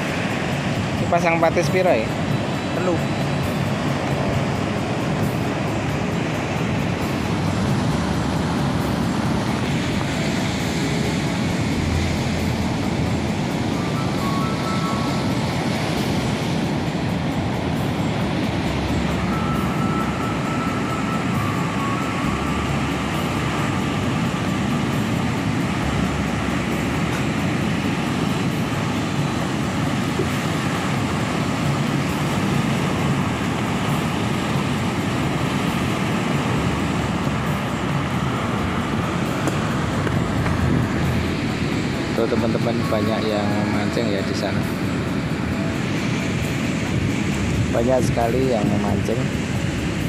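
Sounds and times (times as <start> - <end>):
sea surf roaring: 0.0 - 50.0
wind buffeting microphone: 0.0 - 50.0.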